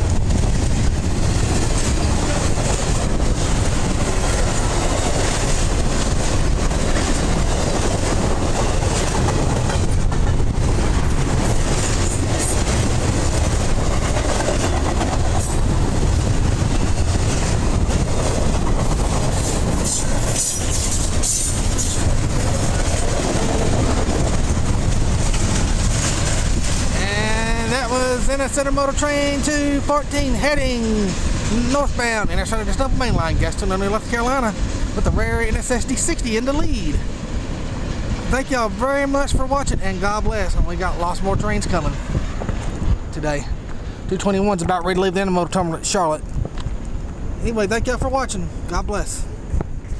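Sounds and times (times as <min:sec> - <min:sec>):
train wheels running on rails: 0:00.0 - 0:49.9.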